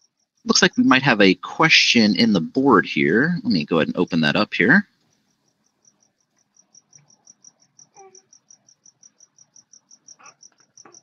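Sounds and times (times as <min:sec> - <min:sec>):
faint high-pitched chirping: 0:00.0 - 0:11.0.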